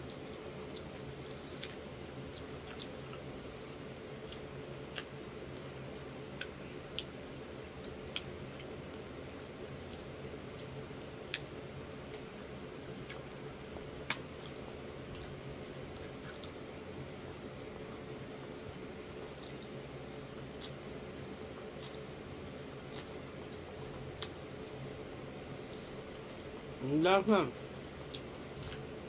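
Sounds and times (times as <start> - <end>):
wet chewing and mouth clicks: 0.0 - 17.3, 18.5 - 20.8, 21.7 - 25.5, 28.0 - 28.9
steady low hum: 0.0 - 29.0.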